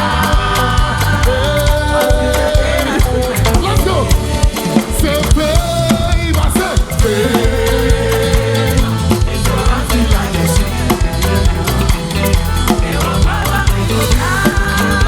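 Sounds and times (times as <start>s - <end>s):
drums and bass beat: 0.0s - 15.0s
upbeat gospel band music: 0.0s - 15.0s
voices singing: 0.0s - 15.0s.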